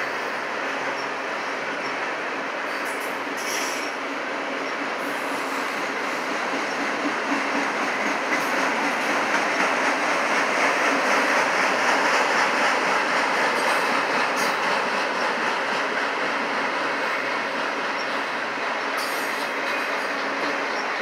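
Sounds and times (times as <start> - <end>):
steel wheels rolling on rails: 0.6 - 21.0.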